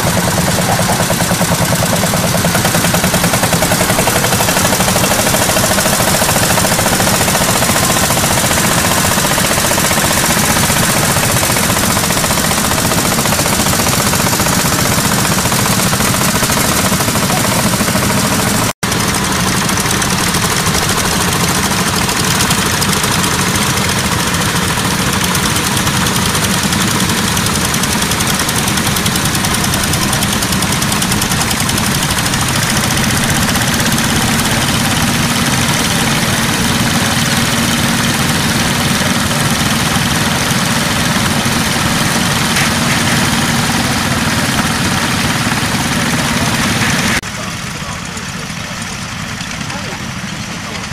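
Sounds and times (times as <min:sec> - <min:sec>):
tractor engines knocking beat: 0:00.0 - 0:50.9.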